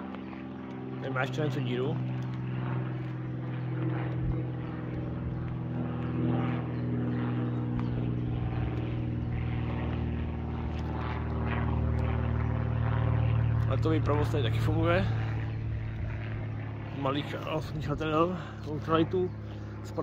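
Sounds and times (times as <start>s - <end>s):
propeller aircraft engine drone: 0.0s - 20.0s.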